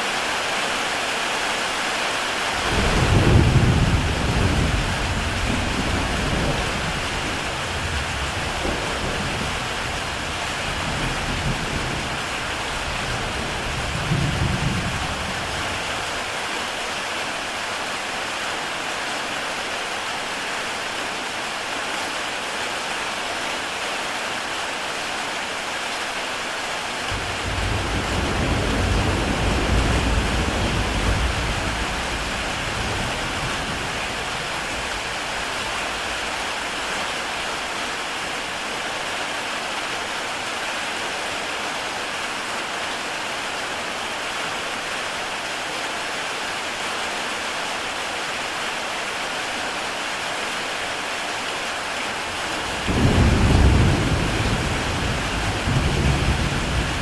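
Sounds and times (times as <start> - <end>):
heavy rain on a tile roof: 0.0 - 57.0.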